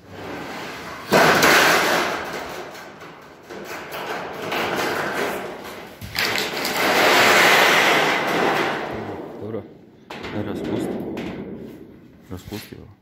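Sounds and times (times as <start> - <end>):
sheet metal rattling and scraping: 0.0 - 12.8
sheet steel clattering: 0.1 - 12.8.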